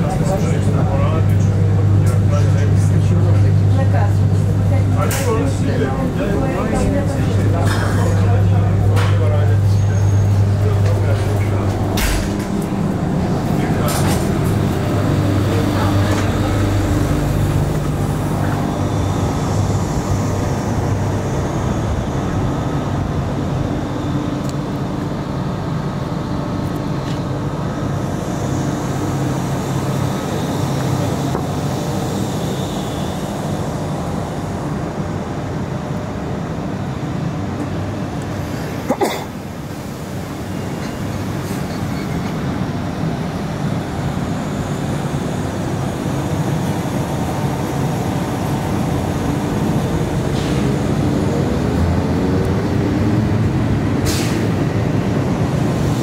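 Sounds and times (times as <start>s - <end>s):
train rolling noise with hum: 0.0s - 56.0s.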